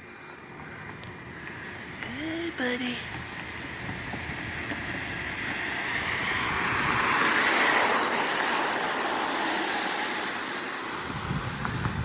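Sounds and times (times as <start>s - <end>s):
car passing on road: 0.0s - 12.0s.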